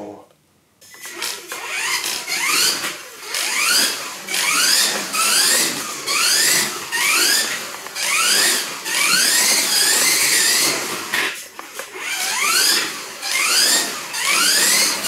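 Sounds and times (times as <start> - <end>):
toy car electric motor whining: 0.8 - 15.0.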